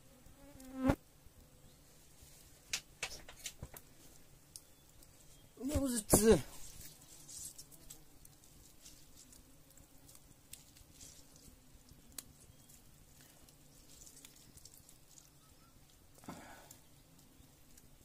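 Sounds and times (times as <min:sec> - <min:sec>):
faint fire crackles: 0:00.0 - 0:18.0.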